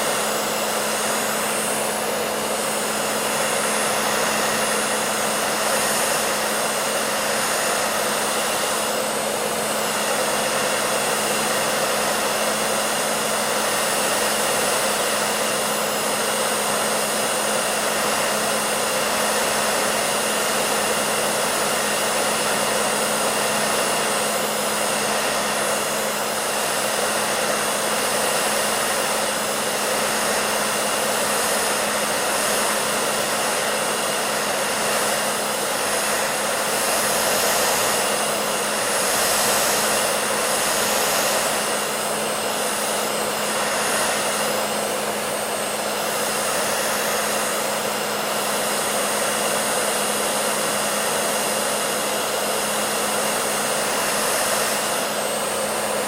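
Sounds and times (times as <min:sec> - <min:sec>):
hair dryer air rush: 0:00.0 - 0:56.0.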